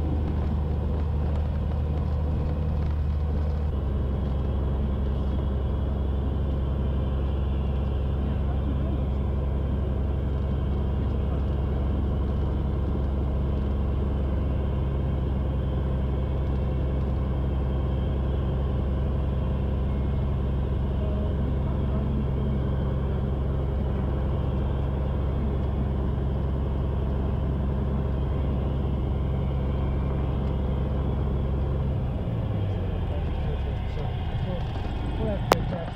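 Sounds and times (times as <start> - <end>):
piston aircraft engine droning: 0.0 - 35.9.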